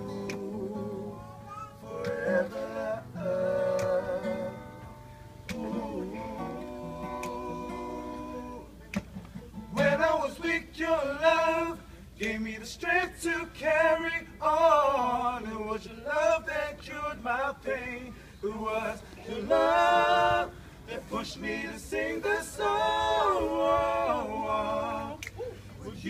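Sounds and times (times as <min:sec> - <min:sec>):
male vocal trio singing: 0:00.0 - 0:08.9, 0:09.8 - 0:26.0.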